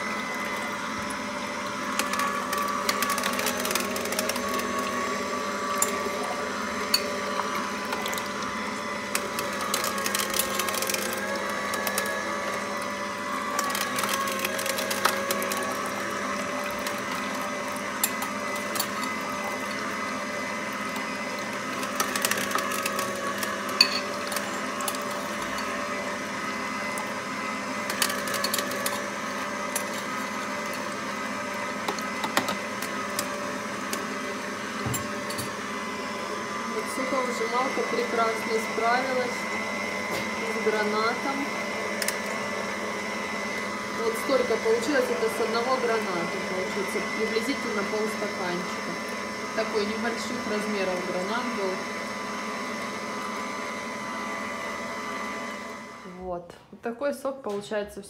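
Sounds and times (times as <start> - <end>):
juicer motor humming: 0.0 - 56.3.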